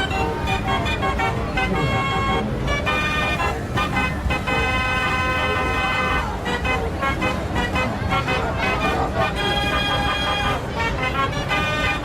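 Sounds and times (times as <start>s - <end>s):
constant low rumble: 0.0s - 12.0s
held horn-like chord: 0.0s - 12.0s.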